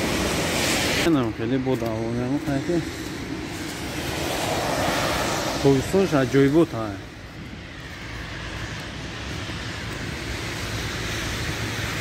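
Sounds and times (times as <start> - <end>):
city traffic on wet road: 0.0 - 12.0.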